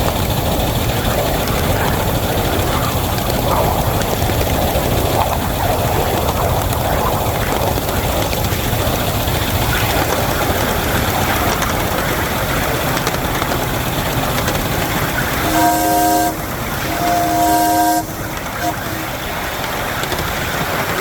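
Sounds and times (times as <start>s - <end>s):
locomotive running rumble: 0.0s - 21.0s.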